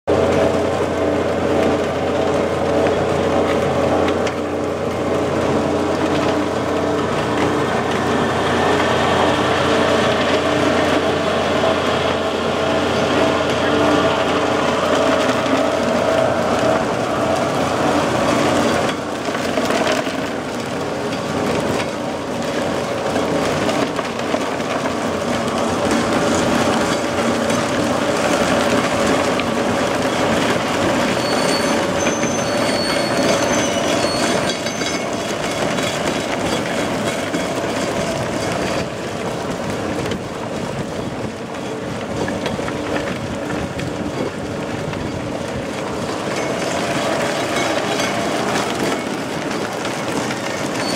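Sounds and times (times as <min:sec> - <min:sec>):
machine hum: 0:00.1 - 0:50.9.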